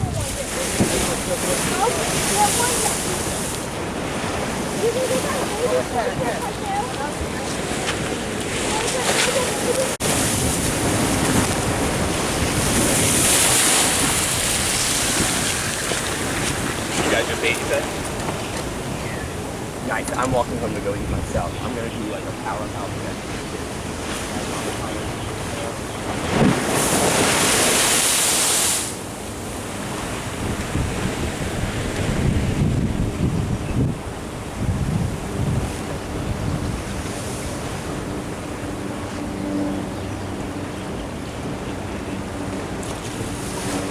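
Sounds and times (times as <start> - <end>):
surf washing on shore: 0.0 - 43.9
wind rushing over the microphone: 0.0 - 43.9.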